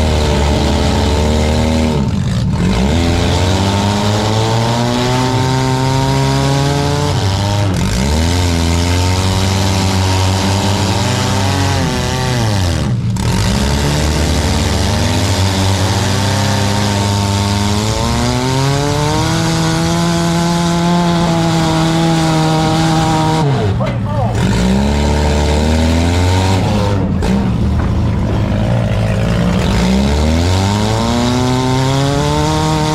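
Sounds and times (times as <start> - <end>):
car engines revving hard: 0.0 - 32.9.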